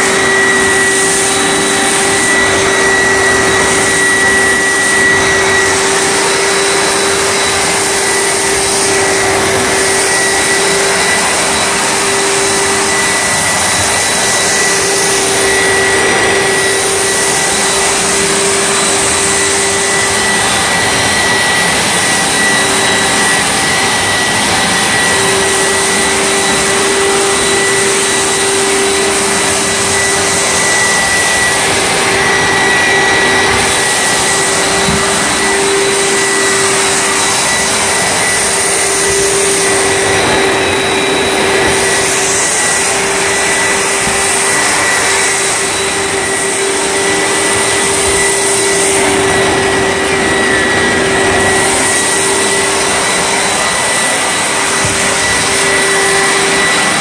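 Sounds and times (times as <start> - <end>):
carpet cleaner running: 0.0 - 57.0.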